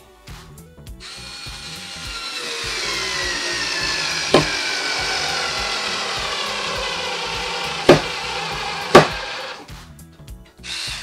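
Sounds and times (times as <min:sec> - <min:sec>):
cordless screwdriver motor whining: 0:01.0 - 0:09.6, 0:10.7 - 0:11.0.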